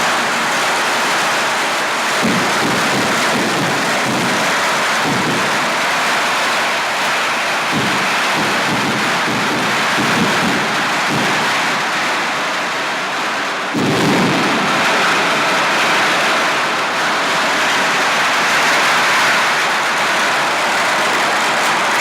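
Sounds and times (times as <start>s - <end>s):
deep firecracker burst: 0.0s - 22.0s
firecrackers crackling: 0.0s - 22.0s.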